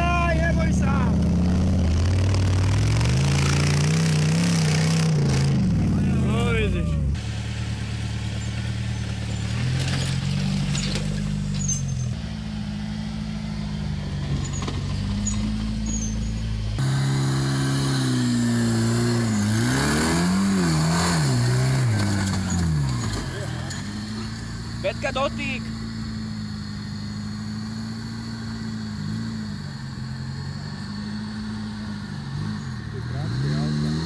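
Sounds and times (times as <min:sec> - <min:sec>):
engine running and revving: 0:00.0 - 0:34.0.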